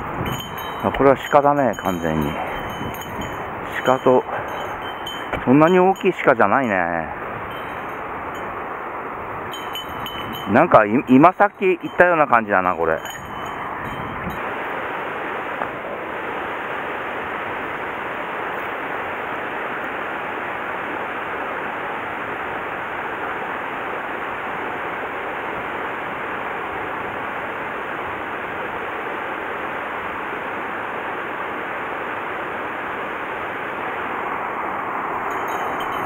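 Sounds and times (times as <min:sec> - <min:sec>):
stream water rushing: 0:00.0 - 0:36.0.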